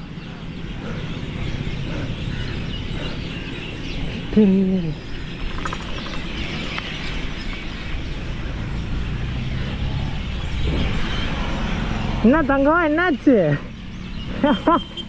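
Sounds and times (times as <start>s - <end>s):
birds chirping: 0.0s - 15.0s
outdoor background noise: 0.0s - 15.0s.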